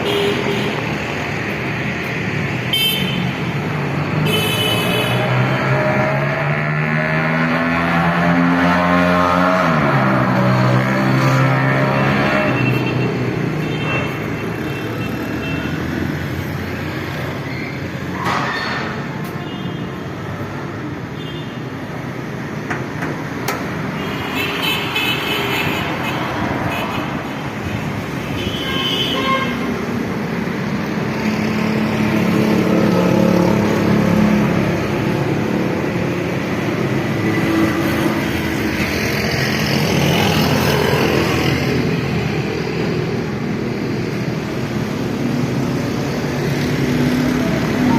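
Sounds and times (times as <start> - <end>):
road traffic: 0.0 - 47.9.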